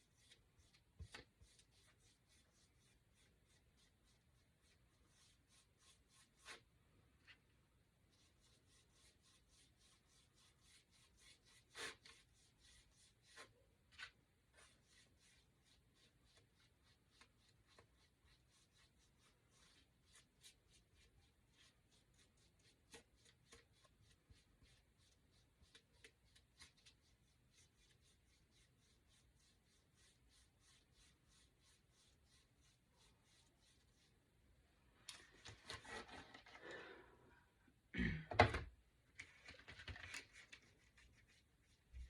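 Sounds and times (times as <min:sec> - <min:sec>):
paint brush strokes: 0:00.0 - 0:36.6, 0:40.2 - 0:42.0.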